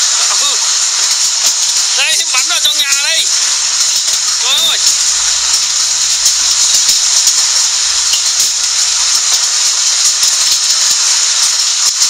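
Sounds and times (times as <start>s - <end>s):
hailstones ticking: 0.0s - 12.0s
heavy rain on roofs: 0.0s - 12.0s.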